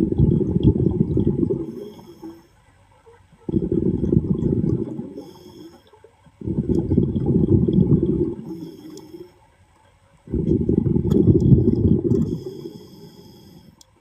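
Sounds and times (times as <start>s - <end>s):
exhaled air bubbling underwater: 0.0s - 14.0s
inhale with faint hiss: 1.0s - 2.7s, 3.5s - 9.5s, 10.3s - 14.0s.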